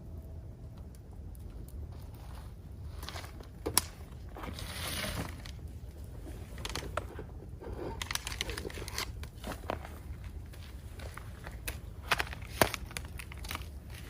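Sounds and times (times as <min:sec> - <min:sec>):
wood bonfire crackling: 0:00.0 - 0:14.0.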